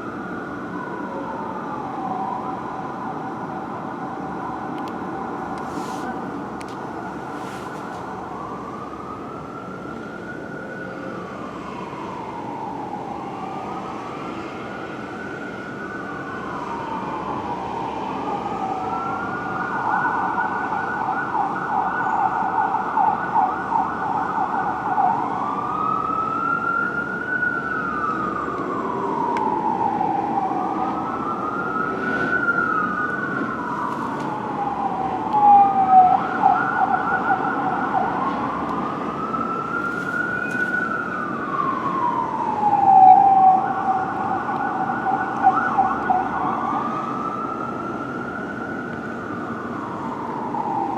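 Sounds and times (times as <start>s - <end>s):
fire engine siren wailing: 0.0s - 50.9s.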